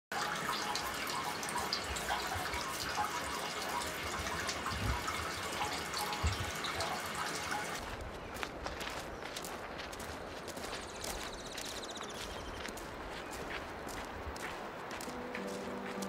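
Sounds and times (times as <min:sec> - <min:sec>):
water trickling and dripping: 0:00.1 - 0:08.0, 0:09.4 - 0:16.0.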